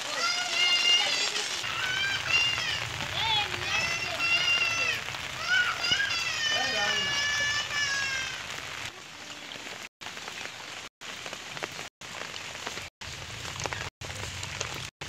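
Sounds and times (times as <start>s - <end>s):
heavy rain falling: 0.0s - 14.9s.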